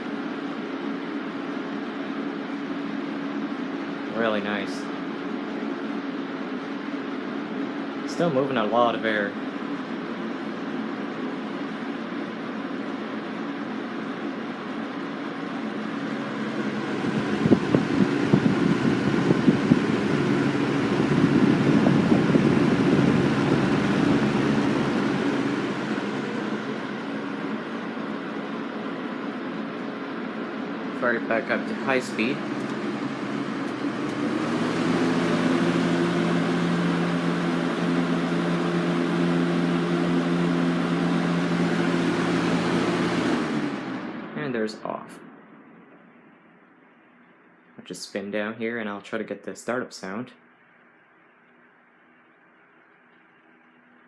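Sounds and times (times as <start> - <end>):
low motor hum: 0.0 - 47.8
box fan running low: 0.0 - 54.0.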